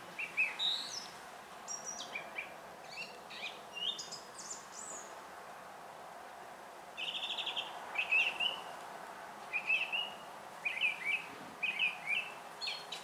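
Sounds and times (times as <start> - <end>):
songbird chirping: 0.0 - 5.2, 7.0 - 13.0
faint background hiss: 0.0 - 13.0.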